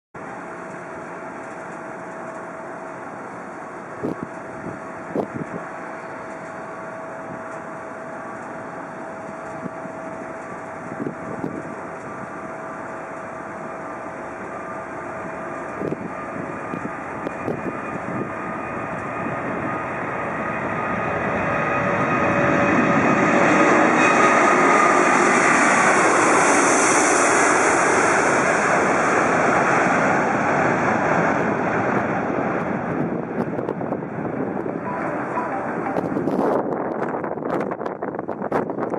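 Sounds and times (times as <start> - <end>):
engine whine dropping in pitch: 0.2 - 38.9
jet engines at takeoff: 0.2 - 38.9.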